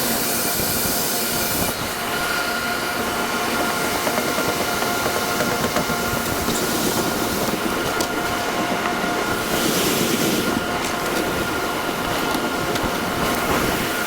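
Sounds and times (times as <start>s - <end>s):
harvest machinery din: 1.4s - 14.0s.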